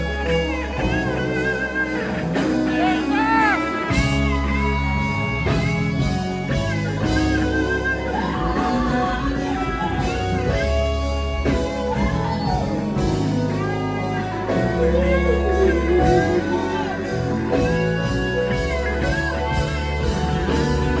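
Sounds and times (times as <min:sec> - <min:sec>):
bluesy electric guitar lead: 0:00.0 - 0:21.0
gospel band playing: 0:00.0 - 0:21.0.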